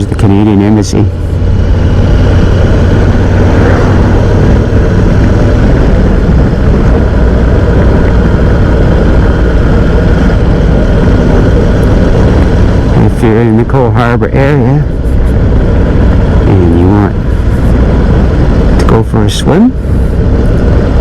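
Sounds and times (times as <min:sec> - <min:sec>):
motorcycle cruising: 0:00.0 - 0:21.0
wind rumble: 0:00.0 - 0:21.0.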